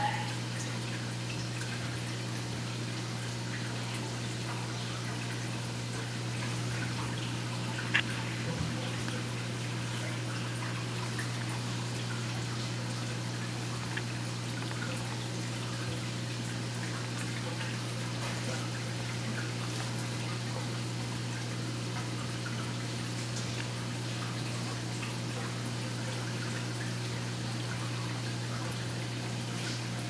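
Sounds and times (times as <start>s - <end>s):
water trickling and dripping: 0.0s - 30.0s.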